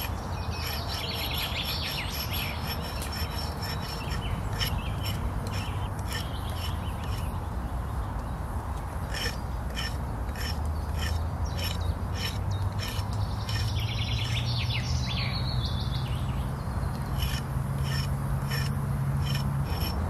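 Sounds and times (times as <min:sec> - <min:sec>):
hatchet scraping bark off stick: 0:00.0 - 0:07.4, 0:08.8 - 0:14.5, 0:16.9 - 0:20.0.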